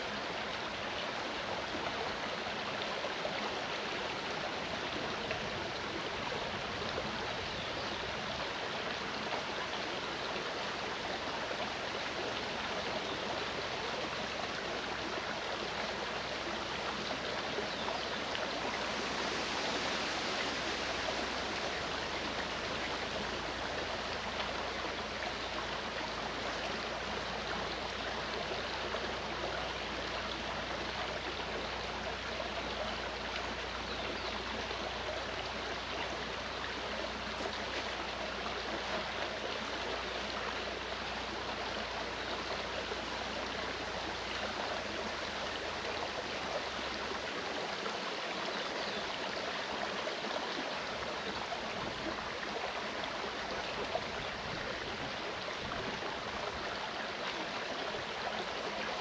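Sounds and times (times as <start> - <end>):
stream water babbling: 0.0 - 59.0.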